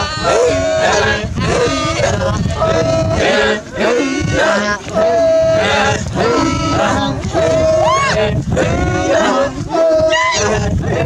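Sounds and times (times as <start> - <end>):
men chanting: 0.0 - 11.0.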